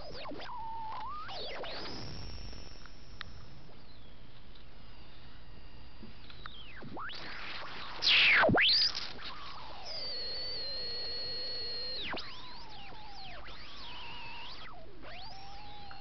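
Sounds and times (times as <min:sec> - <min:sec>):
tesla coil whistling and squealing: 0:00.0 - 0:03.2, 0:04.9 - 0:16.0.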